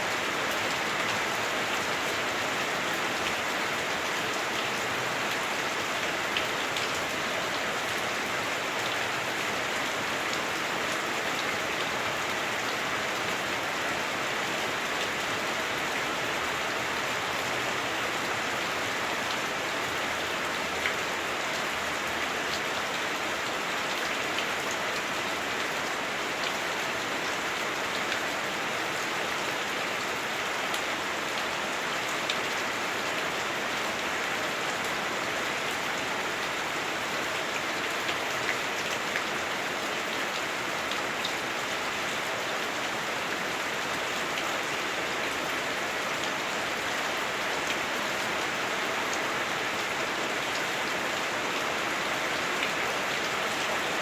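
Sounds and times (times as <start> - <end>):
heavy rain on roof: 0.0 - 54.0.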